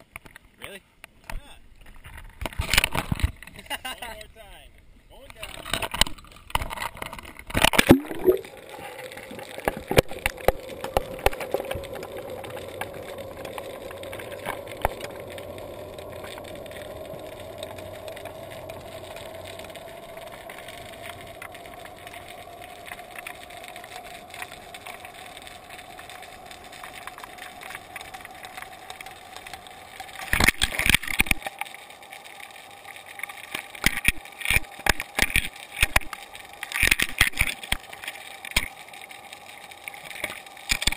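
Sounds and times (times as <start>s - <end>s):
low underwater hum: 0.0s - 40.9s.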